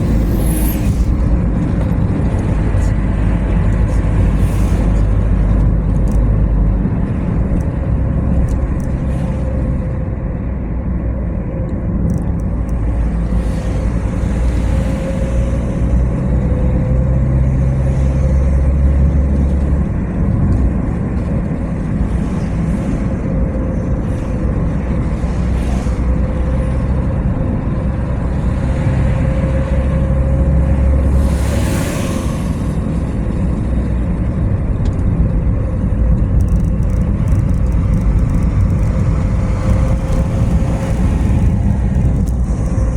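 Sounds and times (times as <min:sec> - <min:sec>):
car engine and tyre rumble: 0:00.0 - 0:42.9.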